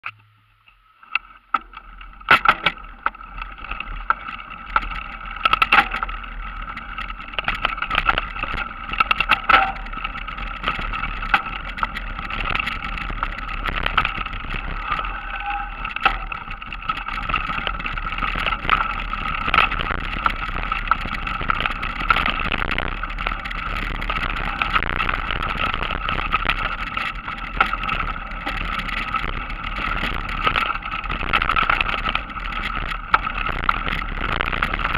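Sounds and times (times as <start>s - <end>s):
bike tyres humming on trail: 0.0s - 34.9s
bike rattling over bumps: 0.1s - 34.9s.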